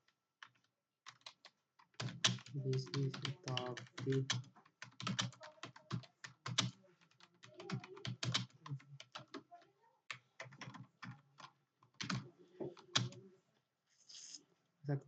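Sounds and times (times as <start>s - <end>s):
fast typing on keyboard: 0.0s - 13.2s.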